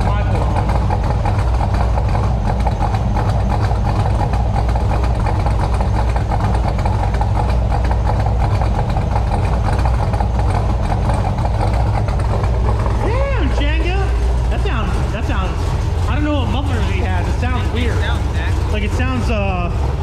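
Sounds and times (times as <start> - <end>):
v eight engine idling: 0.0 - 20.0.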